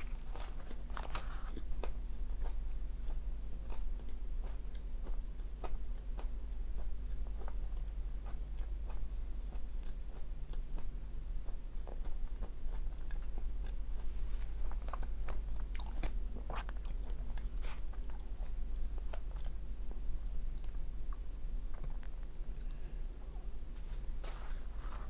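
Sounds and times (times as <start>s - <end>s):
person chewing crunchy food: 0.0s - 22.8s
low electrical hum: 0.0s - 25.0s.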